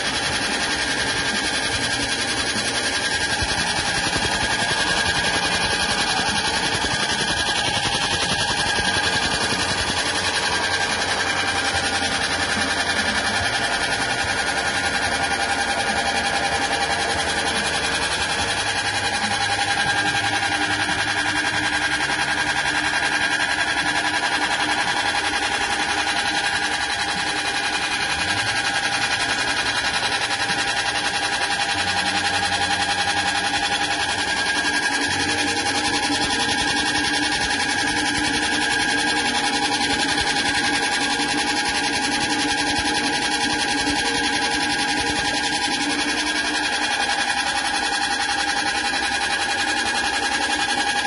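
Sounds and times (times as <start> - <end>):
grinding machine running: 0.0 - 51.0.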